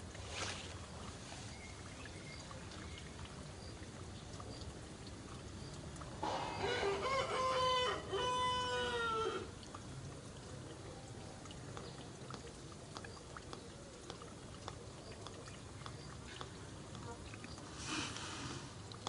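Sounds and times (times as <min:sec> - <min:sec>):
small ticks and rustles: 0:00.0 - 0:06.6, 0:09.4 - 0:19.0.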